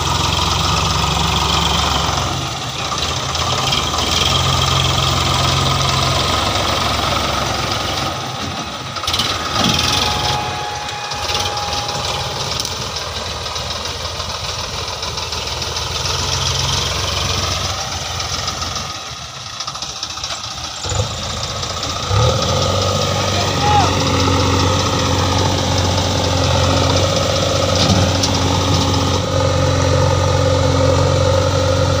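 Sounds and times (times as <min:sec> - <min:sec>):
diesel engines running: 0:00.0 - 0:32.0.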